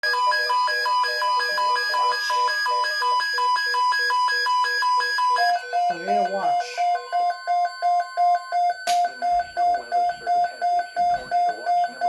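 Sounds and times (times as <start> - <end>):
electronic alarm beeping: 0.0 - 12.0.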